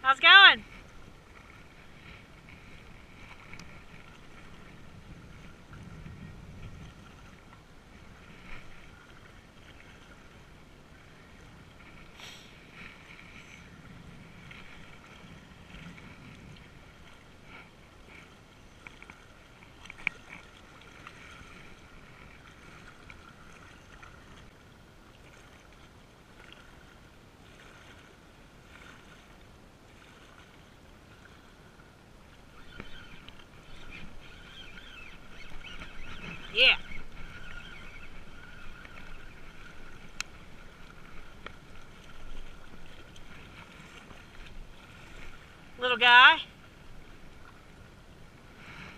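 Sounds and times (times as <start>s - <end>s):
light breeze: 0.0s - 48.9s
waves lapping against rocks: 0.0s - 48.9s.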